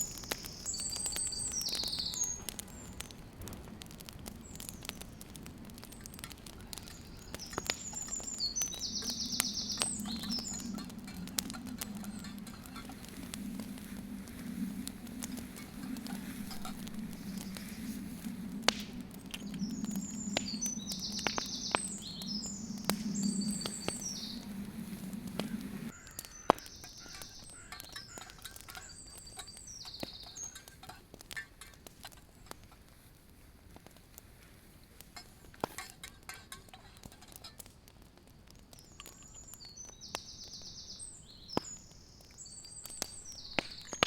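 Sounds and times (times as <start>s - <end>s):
birds chirping: 0.0s - 30.8s, 38.7s - 44.0s.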